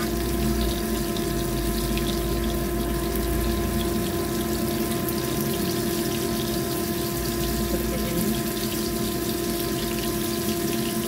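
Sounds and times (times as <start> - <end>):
fish frying in oil: 0.0 - 11.0
machine hum: 0.0 - 11.0.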